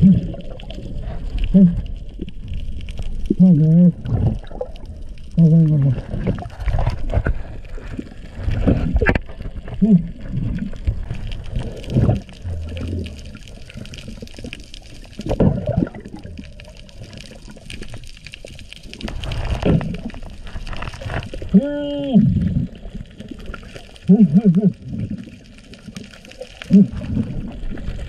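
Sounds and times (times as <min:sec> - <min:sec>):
underwater gurgling and sloshing: 0:00.0 - 0:28.0.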